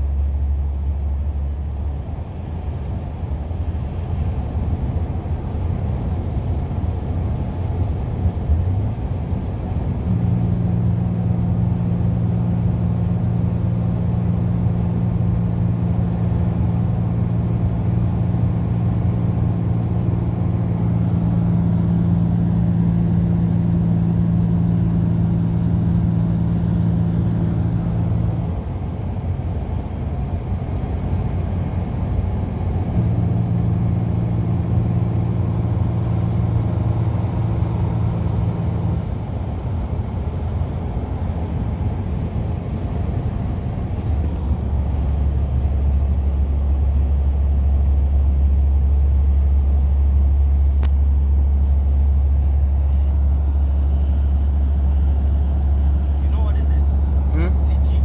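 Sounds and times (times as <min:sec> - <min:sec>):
low engine drone: 0:00.0 - 0:58.0
road noise: 0:00.0 - 0:58.0.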